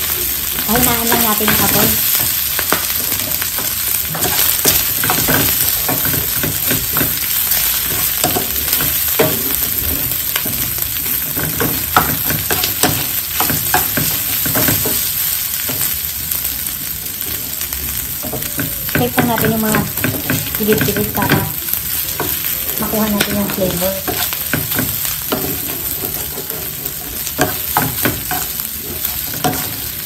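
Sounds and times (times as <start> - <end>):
meat sizzling in a frying pan: 0.0 - 30.0
spatula scraping a pan: 0.0 - 30.0.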